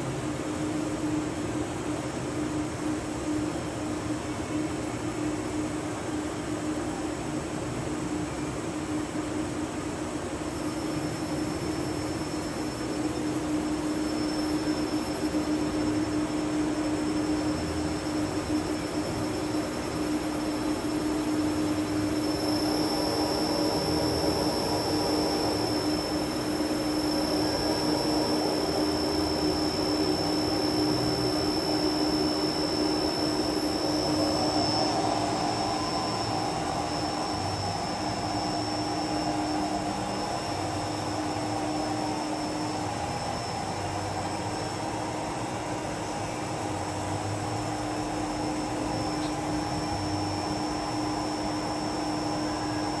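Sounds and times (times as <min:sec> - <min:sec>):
machine hum with high whine: 0:00.0 - 0:53.0.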